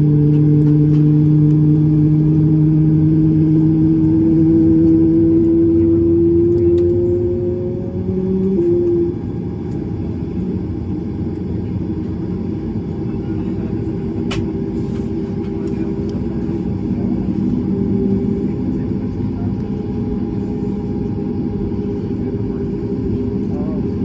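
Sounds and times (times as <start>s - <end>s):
aircraft cabin rumble and hum: 0.0s - 24.0s.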